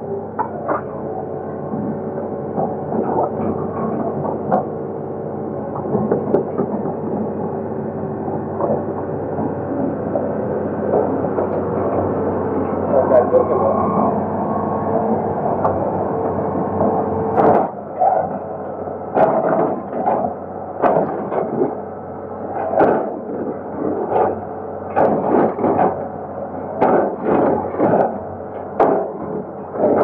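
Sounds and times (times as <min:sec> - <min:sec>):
excavator engine under load: 0:00.0 - 0:30.0.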